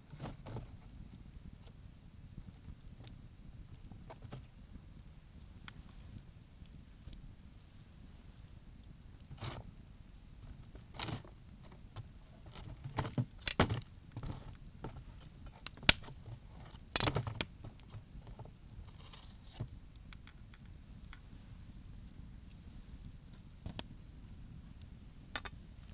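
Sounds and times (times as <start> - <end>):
campfire popping and cracking: 0.0 - 25.9.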